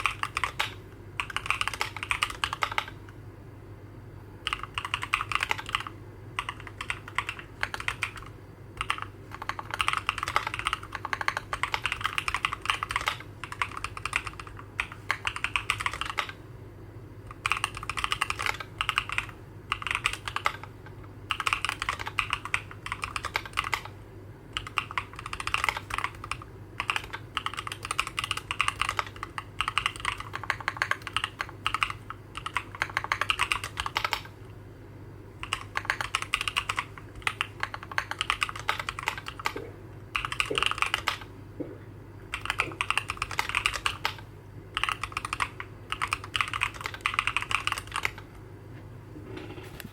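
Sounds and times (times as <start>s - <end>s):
mechanical keyboard typing: 0.0s - 3.0s, 4.4s - 16.4s, 17.3s - 23.9s, 24.5s - 34.3s, 35.4s - 41.3s, 42.3s - 48.4s
faint steady hum: 0.0s - 49.9s.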